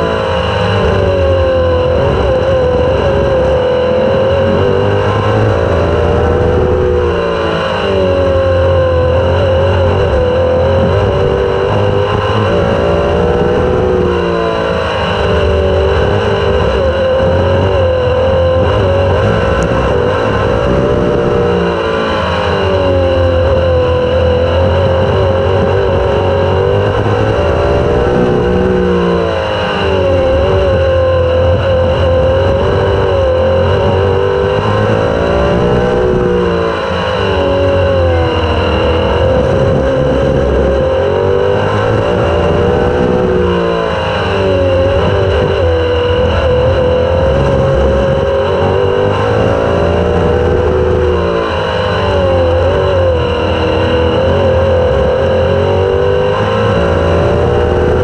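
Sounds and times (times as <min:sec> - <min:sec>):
race car engine: 0:00.0 - 0:58.0
wind noise: 0:00.0 - 0:58.0.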